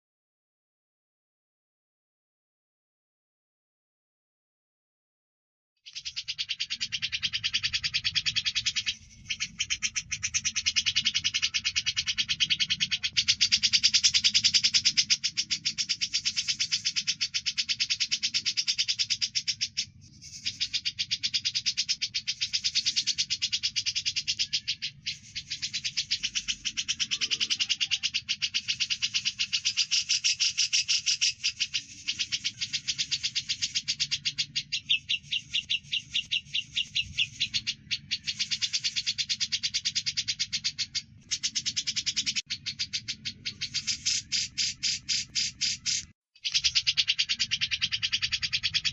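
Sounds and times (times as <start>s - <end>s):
birds chirping and chattering: 5.9s - 48.9s.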